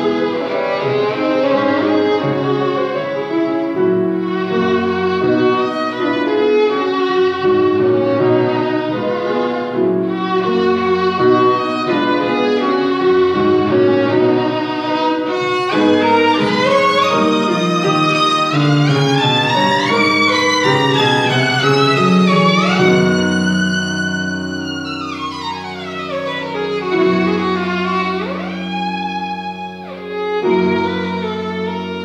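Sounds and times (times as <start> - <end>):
bowed violin melody: 0.0 - 32.0
piano accompaniment: 0.0 - 32.0.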